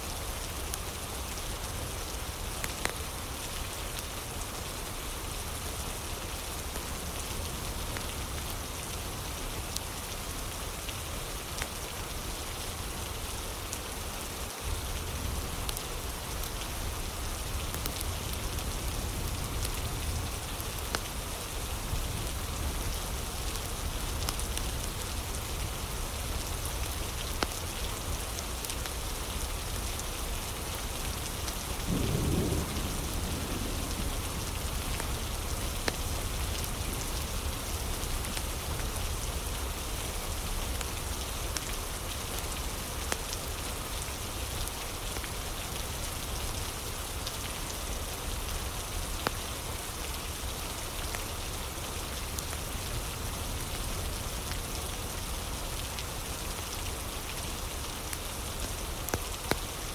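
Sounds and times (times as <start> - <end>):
fire crackles: 0.0 - 59.9
rain: 0.0 - 59.9.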